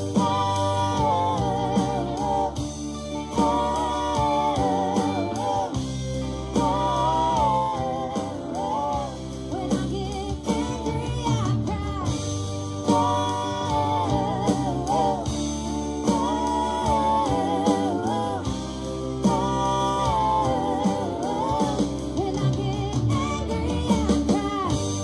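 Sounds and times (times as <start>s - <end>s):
acoustic and electric guitars: 0.0s - 25.0s
bass guitar: 0.0s - 25.0s
drums: 0.0s - 25.0s
woman singing: 0.0s - 25.0s.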